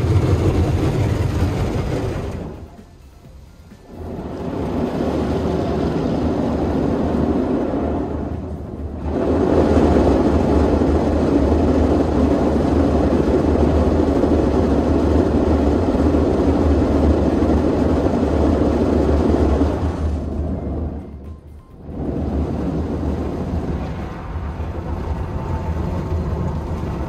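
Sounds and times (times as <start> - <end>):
car wash machinery rushing: 0.0 - 27.0
low rumble: 0.0 - 27.0.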